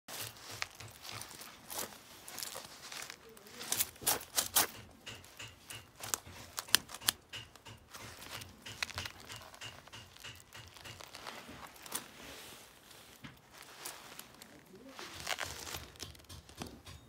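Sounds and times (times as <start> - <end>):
light rustling: 0.1 - 16.9
chain mail and plates clinking: 0.1 - 17.0.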